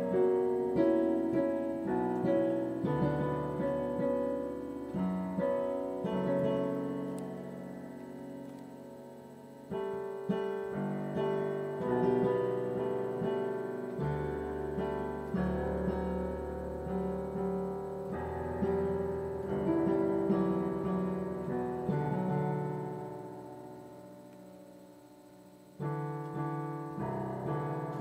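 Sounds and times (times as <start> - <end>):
piano playing: 0.0 - 28.0.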